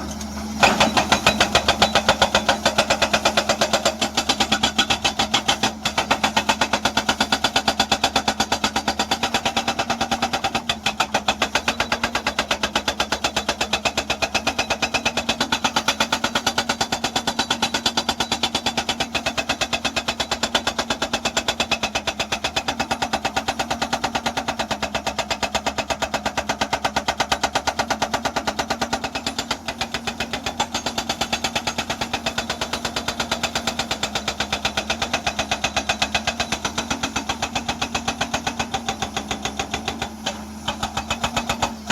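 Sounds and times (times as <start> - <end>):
diesel engine running: 0.0 - 41.9
hydraulic breaker hammering rock: 0.0 - 41.9.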